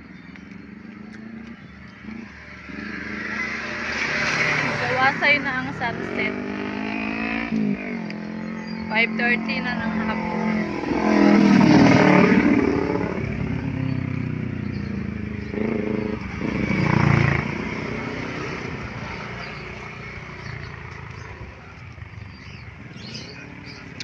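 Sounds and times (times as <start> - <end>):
distant traffic: 0.0 - 24.0
motorcycle passing by: 0.0 - 24.0.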